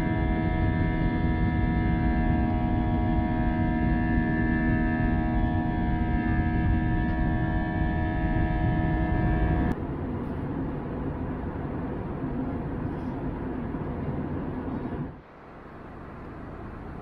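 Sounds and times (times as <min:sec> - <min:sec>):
airliner cabin engine and airflow noise: 0:00.0 - 0:17.0
hum of held tones: 0:00.0 - 0:17.0.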